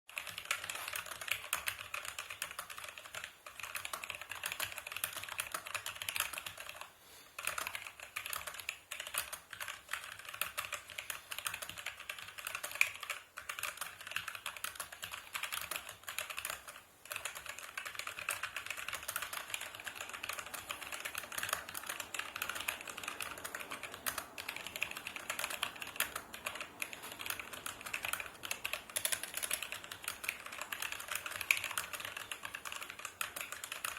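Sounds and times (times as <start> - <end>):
mechanical keyboard typing: 0.1 - 33.9.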